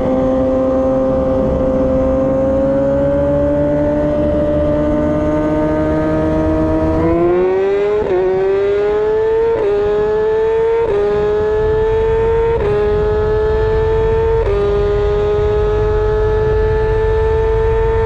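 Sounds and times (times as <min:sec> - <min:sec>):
low wind rumble: 0:00.0 - 0:18.0
motorcycle engine accelerating: 0:00.0 - 0:18.0.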